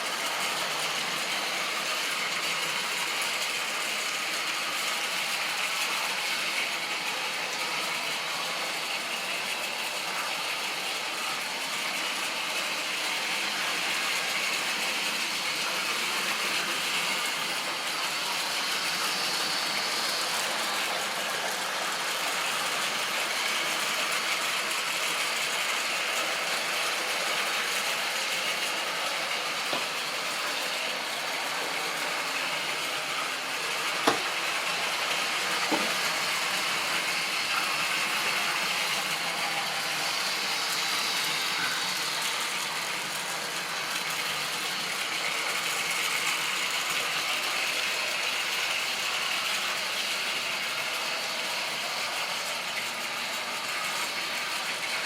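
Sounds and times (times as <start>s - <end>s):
model train motor whirring: 0.0s - 55.0s.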